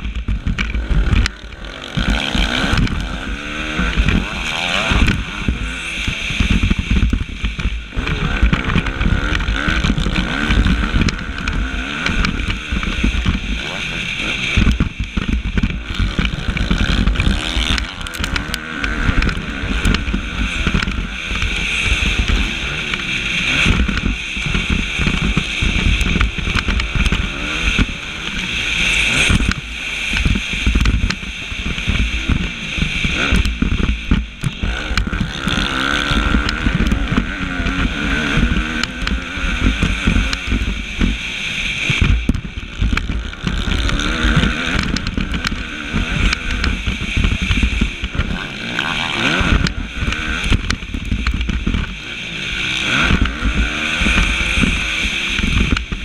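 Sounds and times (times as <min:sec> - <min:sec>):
knocks from rough track: 0:00.0 - 0:56.0
motocross bike engine revving: 0:00.0 - 0:56.0
wind rumble on microphone: 0:00.0 - 0:56.0.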